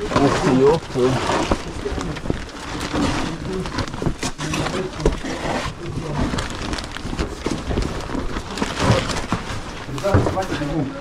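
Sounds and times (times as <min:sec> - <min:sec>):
clothes and gear rustling: 0:00.0 - 0:11.0.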